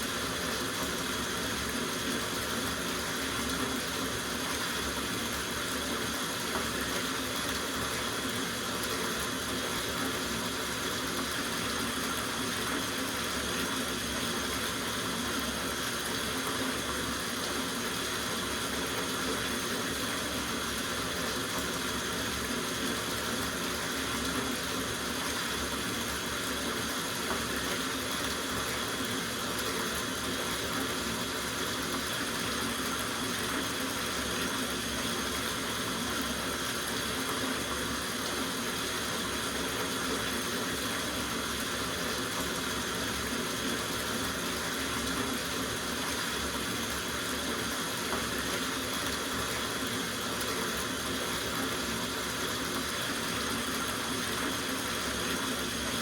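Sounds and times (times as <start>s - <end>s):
tap water running into bathtub: 0.0s - 56.0s.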